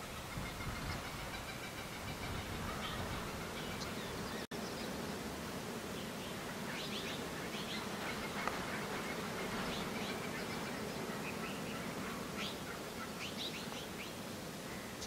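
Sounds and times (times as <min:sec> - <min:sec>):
insects hissing: 0:00.3 - 0:15.0.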